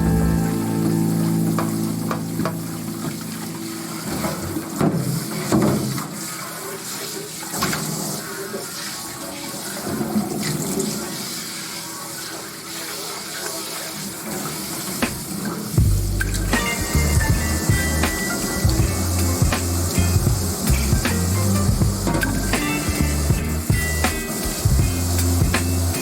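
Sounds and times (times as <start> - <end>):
water running from tap: 0.0 - 26.0.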